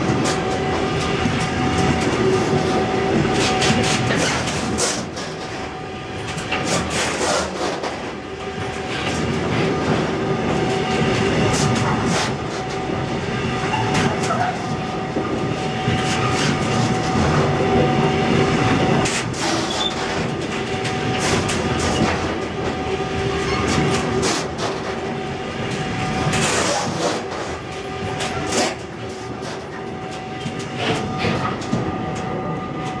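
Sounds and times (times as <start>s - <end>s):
freight train wheels clacking: 0.0s - 33.0s.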